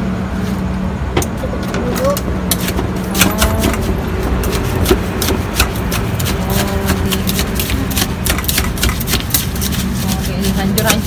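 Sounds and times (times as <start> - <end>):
engine hum: 0.0 - 11.0.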